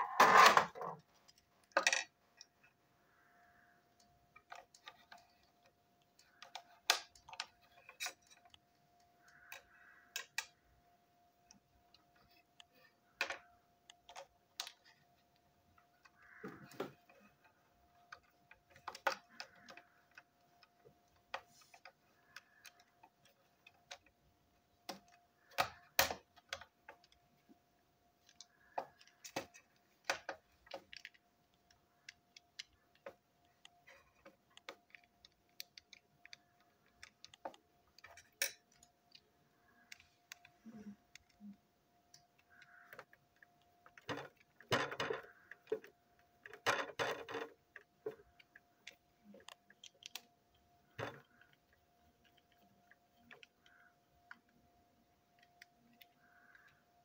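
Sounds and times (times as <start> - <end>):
plastic toy parts clicking: 0.0 - 10.6, 11.4 - 27.5, 28.1 - 57.0
faint steady hum: 0.0 - 57.0.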